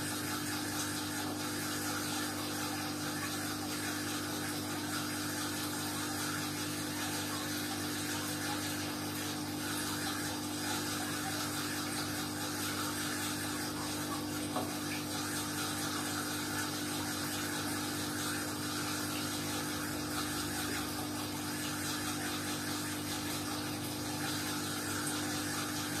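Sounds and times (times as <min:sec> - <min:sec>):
aquarium pump humming: 0:00.0 - 0:26.0.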